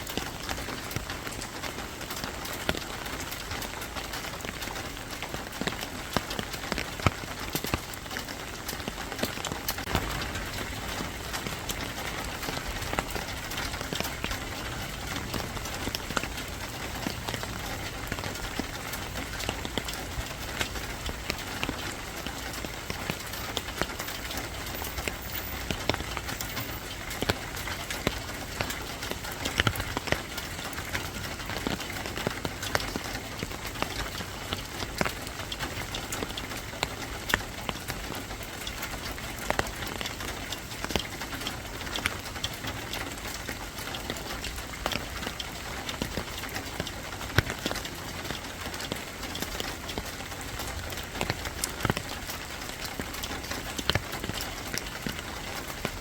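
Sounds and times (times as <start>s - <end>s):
raindrops hitting hard surface: 0.0s - 56.0s
steady rain falling: 0.0s - 56.0s.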